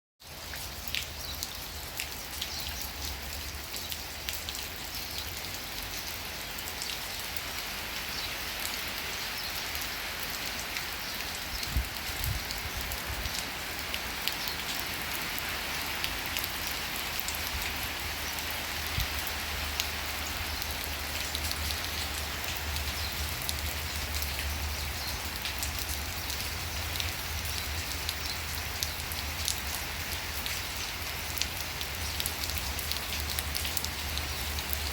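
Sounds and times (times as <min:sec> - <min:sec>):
rain hissing: 0:00.2 - 0:34.9
raindrops ticking: 0:00.3 - 0:34.9.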